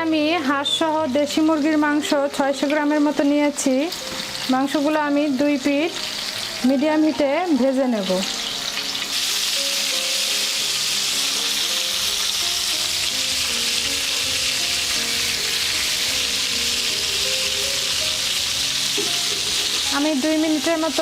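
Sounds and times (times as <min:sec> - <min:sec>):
chicken sizzling in frying pan: 0:00.0 - 0:21.0.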